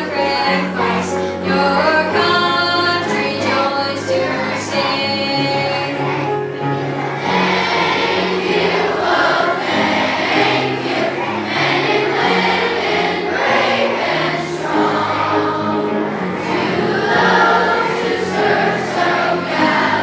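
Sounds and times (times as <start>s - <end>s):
children's choir singing: 0.0s - 20.0s
sustained low accompanying notes: 0.0s - 20.0s.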